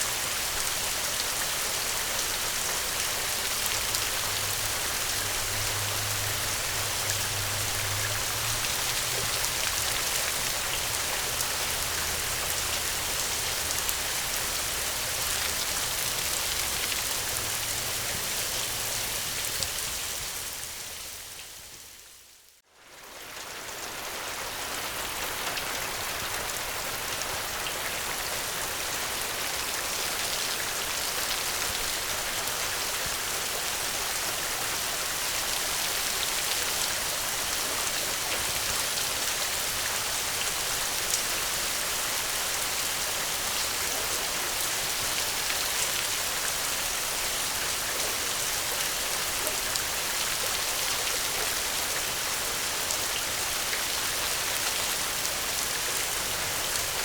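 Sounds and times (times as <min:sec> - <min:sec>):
dense rainfall hiss: 0:00.0 - 0:57.0.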